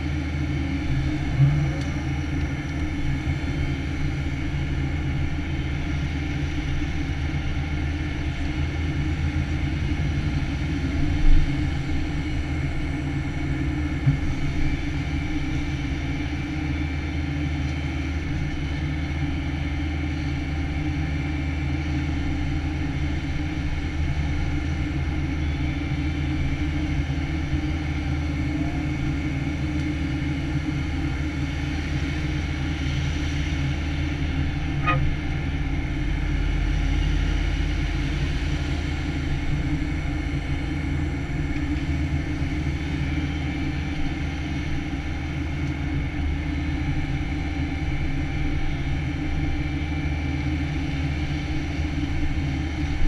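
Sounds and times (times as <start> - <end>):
excavator diesel engine and hydraulics: 0.0 - 45.5
low hum: 0.0 - 53.0.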